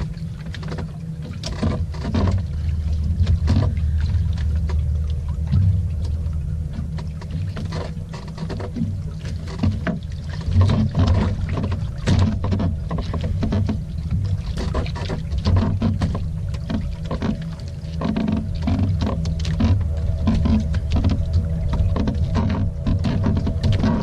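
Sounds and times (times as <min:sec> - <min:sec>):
boat engine low rumble: 0:00.0 - 0:24.0
water splashing against hull: 0:00.0 - 0:24.0.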